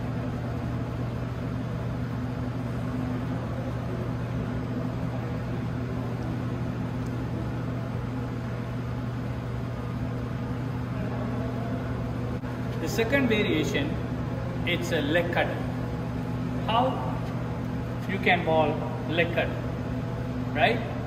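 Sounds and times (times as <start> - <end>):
ventilation hum with hiss: 0.0 - 21.0.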